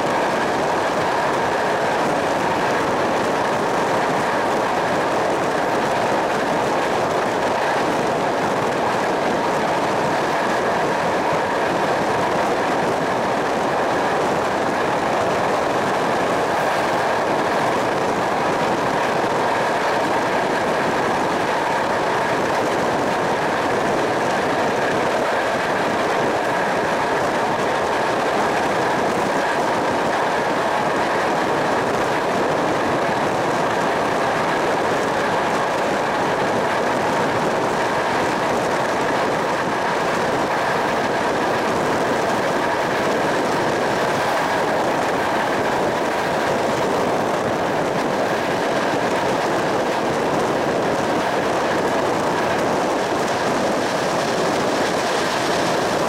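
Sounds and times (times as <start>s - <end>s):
rushing air: 0.0s - 56.0s
train wheels rumbling on rail: 0.0s - 56.0s.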